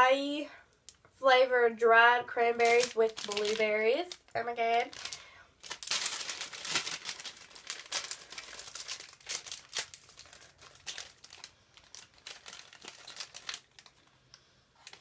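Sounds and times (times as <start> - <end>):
snack bag crinkling: 2.6 - 15.0.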